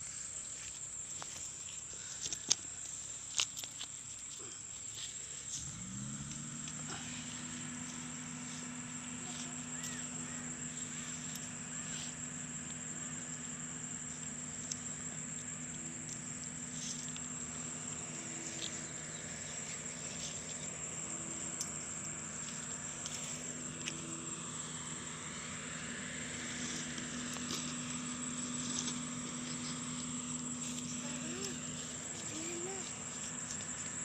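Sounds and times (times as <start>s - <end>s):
insects chirring in grass: 0.0s - 34.0s
low steady hum: 0.0s - 34.0s.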